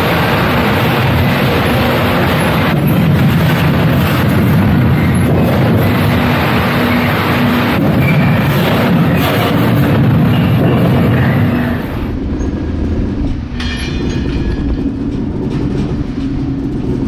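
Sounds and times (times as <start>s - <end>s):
freight wagons rolling past: 0.0s - 17.0s
steady low drone: 0.0s - 17.0s.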